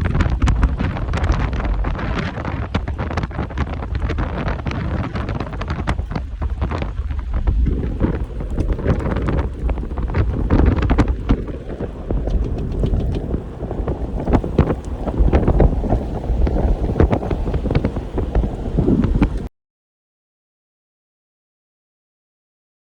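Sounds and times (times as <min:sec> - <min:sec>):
heavy low rumble: 0:00.0 - 0:19.5
wind buffeting microphone: 0:00.0 - 0:19.5.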